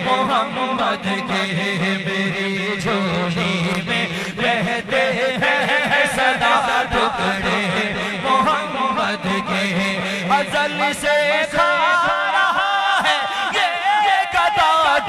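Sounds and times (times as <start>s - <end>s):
man singing in chant-like style: 0.0s - 15.0s.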